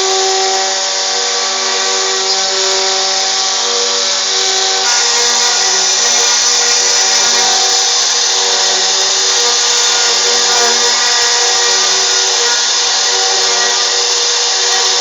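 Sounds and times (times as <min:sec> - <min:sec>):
router spindle machining: 0:00.0 - 0:15.0.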